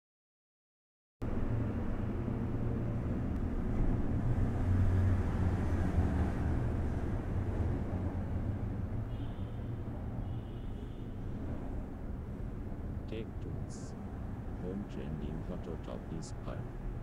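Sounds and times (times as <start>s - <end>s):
low rumbling background noise: 1.2s - 9.1s, 11.2s - 17.0s.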